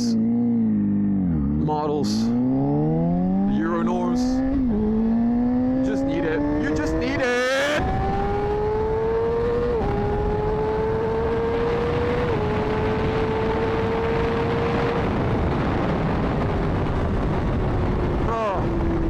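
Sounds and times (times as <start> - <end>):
motorcycle engine accelerating: 0.0 - 19.0
wind rush on microphone: 3.7 - 19.0.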